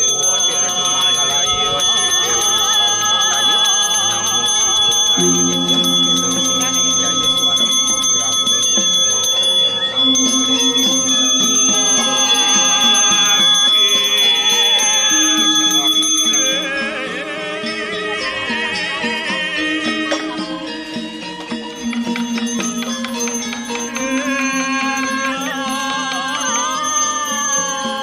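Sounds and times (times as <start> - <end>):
brass hand bell ringing: 0.0 - 17.2, 19.9 - 28.0
ceremonial music: 0.0 - 27.8
singing: 0.0 - 28.0.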